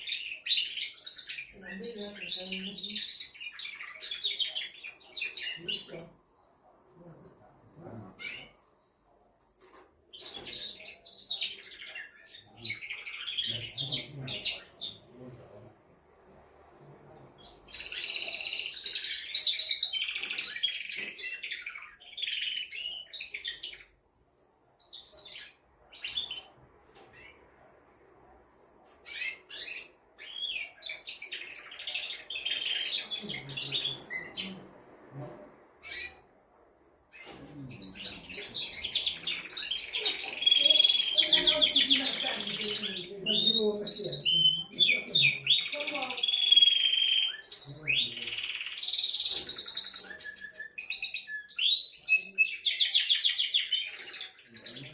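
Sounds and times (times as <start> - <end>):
canary singing trills: 0.0 - 7.1, 7.8 - 9.0, 9.6 - 15.5, 17.1 - 24.0, 24.7 - 27.4, 29.0 - 34.8, 35.8 - 36.3, 37.1 - 54.9.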